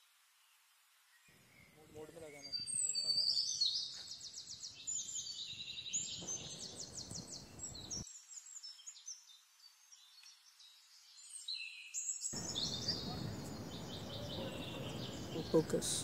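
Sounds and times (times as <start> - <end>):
low outdoor background: 0.0 - 11.5, 12.3 - 16.0
birds chirping and singing: 1.2 - 16.0.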